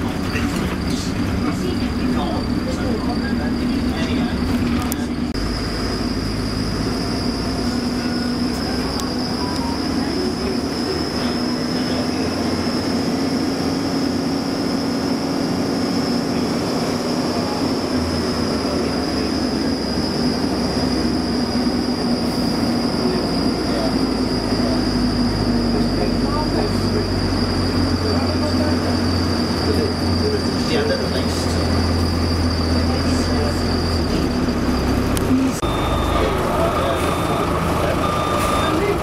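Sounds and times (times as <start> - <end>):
train rumble: 0.0 - 39.0
high-pitched whine: 0.2 - 39.0.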